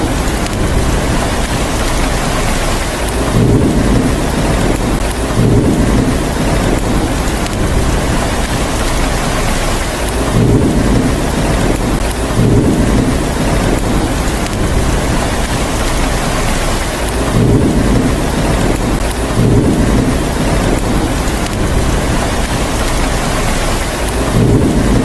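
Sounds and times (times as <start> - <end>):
heavy rain hissing: 0.0 - 25.0
thunder rumbles: 0.0 - 25.0.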